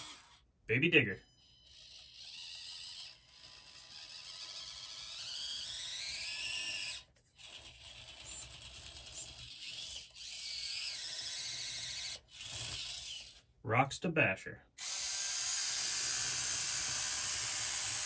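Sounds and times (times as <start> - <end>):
electric motor and gears whining: 0.0 - 0.4, 1.2 - 13.5, 14.8 - 18.0.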